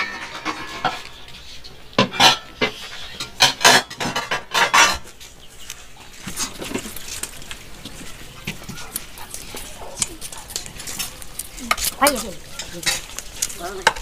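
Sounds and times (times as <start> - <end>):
metal pots and spoons clattering: 0.0 - 5.2, 6.2 - 14.0.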